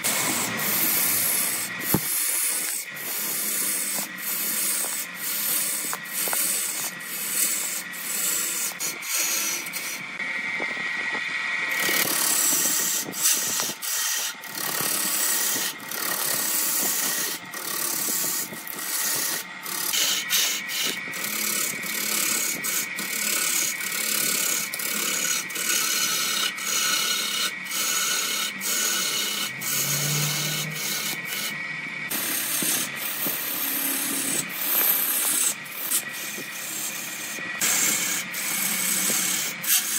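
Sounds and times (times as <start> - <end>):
gouge scraping wood on lathe: 0.0 - 39.9.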